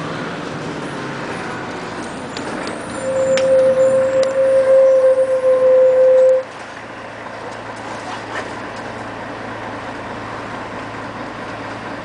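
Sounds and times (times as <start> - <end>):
bus engine humming: 0.0 - 12.0
road noise: 0.0 - 12.0.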